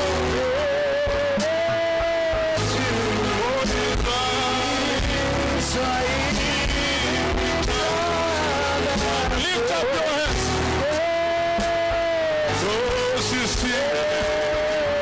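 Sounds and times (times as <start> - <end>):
person singing: 0.0 - 15.0
worship band with bass line: 0.0 - 15.0.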